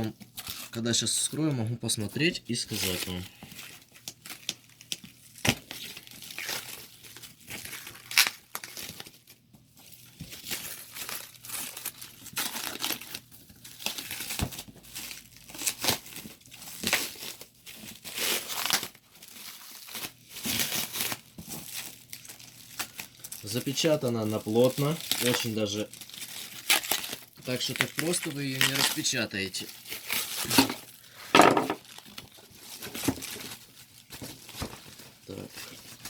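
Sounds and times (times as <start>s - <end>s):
packaging crinkling and tearing: 0.0s - 1.0s, 2.5s - 36.0s.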